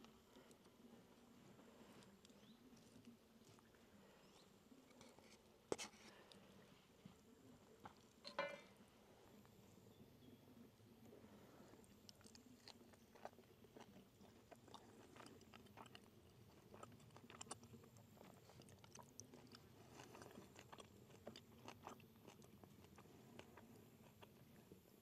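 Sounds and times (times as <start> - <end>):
faint chewing with crunches: 0.0 - 25.0.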